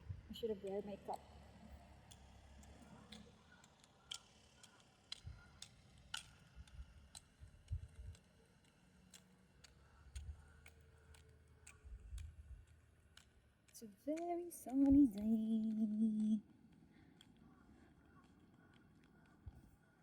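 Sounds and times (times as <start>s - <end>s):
faint sharp clicks: 2.1s - 19.6s.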